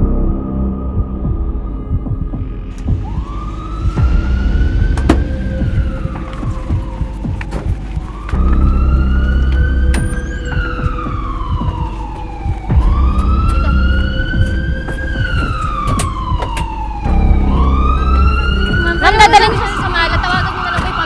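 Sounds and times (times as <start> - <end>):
low rumble: 0.0 - 20.6
emergency vehicle siren wailing: 2.5 - 21.0.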